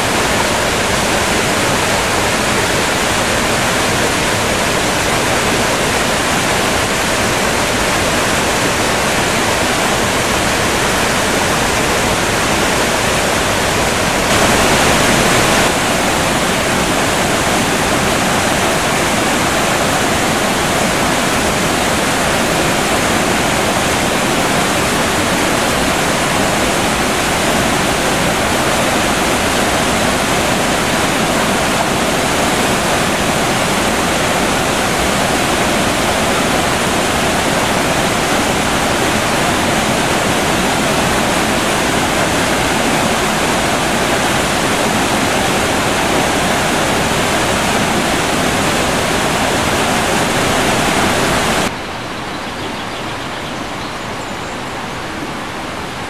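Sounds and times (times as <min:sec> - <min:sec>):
river rushing over rapids: 0:00.0 - 0:52.2, 0:53.1 - 0:56.0.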